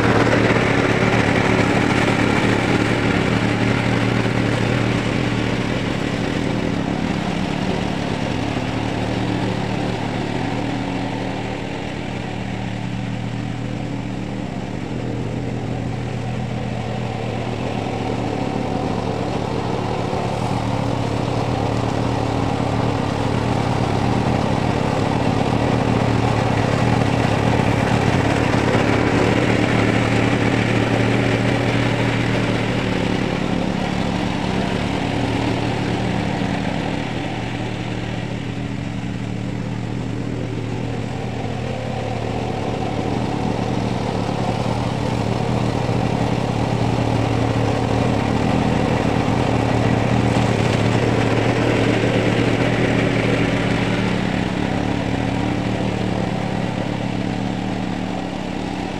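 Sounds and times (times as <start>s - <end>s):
mower engine running: 0.0s - 58.9s.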